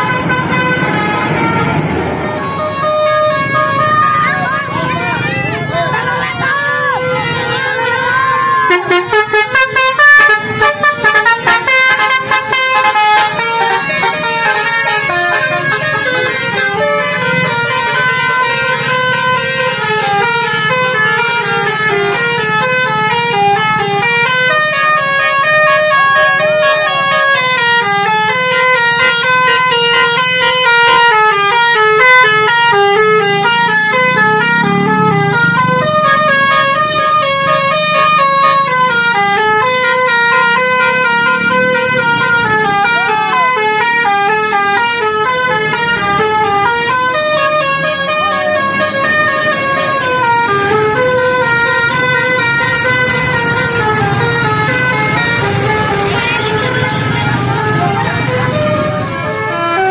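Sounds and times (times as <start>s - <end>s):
bus engines: 0.0s - 59.9s
musical air horn melody: 0.0s - 59.9s.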